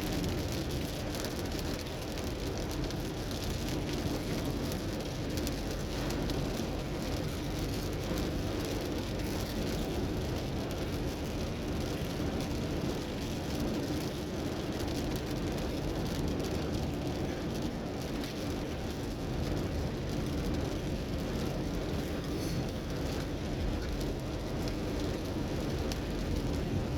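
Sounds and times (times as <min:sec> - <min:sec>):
car engine and tyre noise: 0:00.0 - 0:26.9
rain: 0:00.0 - 0:26.9.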